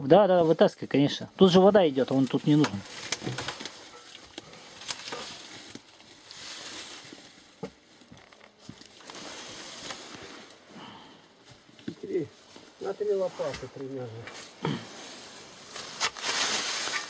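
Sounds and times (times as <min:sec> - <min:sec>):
faint rustling and scraping: 0:00.2 - 0:17.0.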